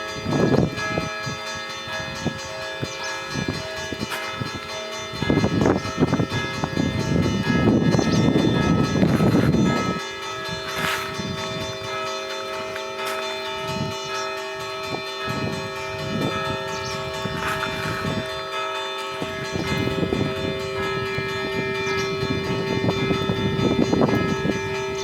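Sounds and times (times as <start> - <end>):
church bells ringing: 0.0 - 25.0.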